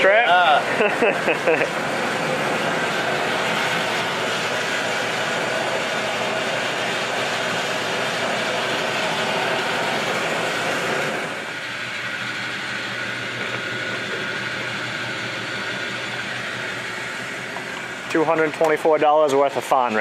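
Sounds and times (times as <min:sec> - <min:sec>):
fuel pump humming: 0:00.0 - 0:20.0.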